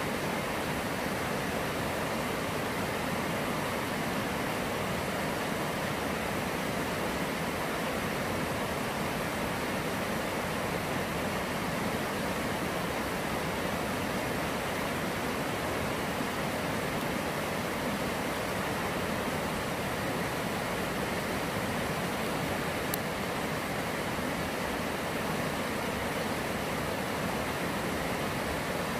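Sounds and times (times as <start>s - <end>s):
stream rushing over boulders: 0.0s - 28.9s.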